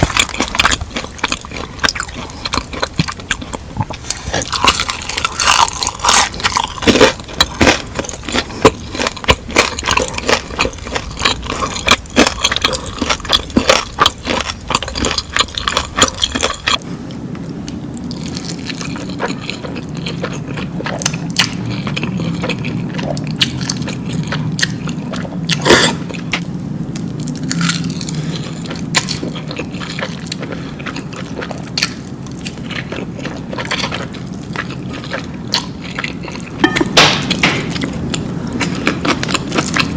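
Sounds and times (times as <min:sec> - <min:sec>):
steady low hum: 0:00.0 - 0:39.9
wet chewing: 0:00.0 - 0:39.9.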